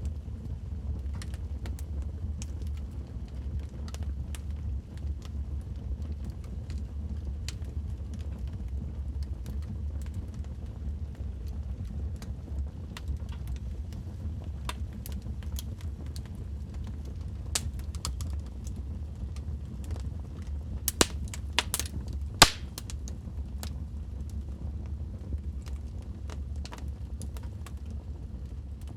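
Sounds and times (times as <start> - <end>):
low fire rumble: 0.0 - 28.9
fire crackling and popping: 0.1 - 28.9.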